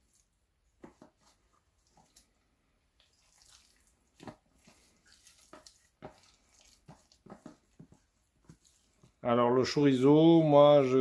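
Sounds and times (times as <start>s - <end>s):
hand squelching ground meat: 0.0s - 10.5s.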